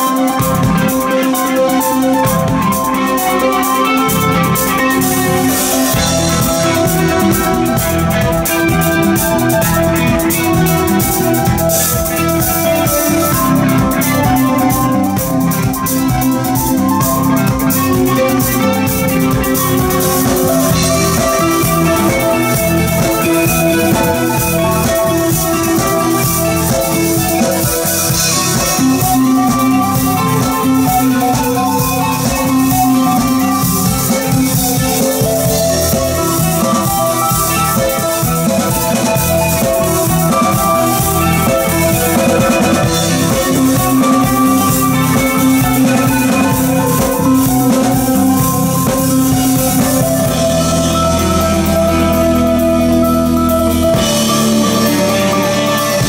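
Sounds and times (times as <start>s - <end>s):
drum kit: 0.0s - 56.0s
electric bass: 0.0s - 56.0s
electric guitar sustained notes: 0.0s - 56.0s.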